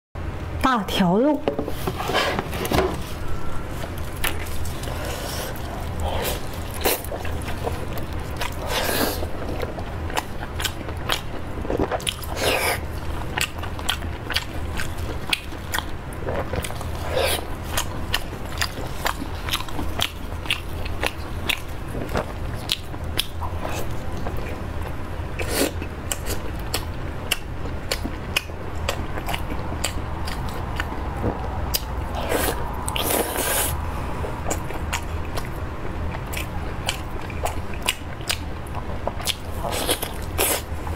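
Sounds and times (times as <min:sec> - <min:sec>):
steady low hum: 0:00.2 - 0:40.9
biting and chewing food: 0:02.4 - 0:40.9.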